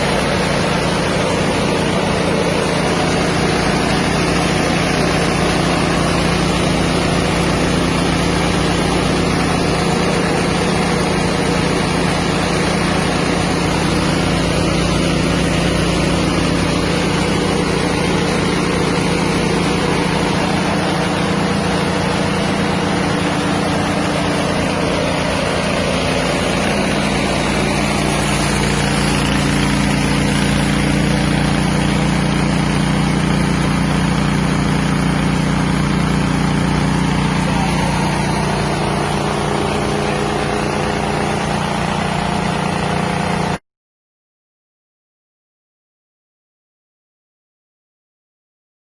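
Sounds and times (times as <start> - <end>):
rice milling machine: 0.0 - 43.6
small engine running: 0.0 - 43.6.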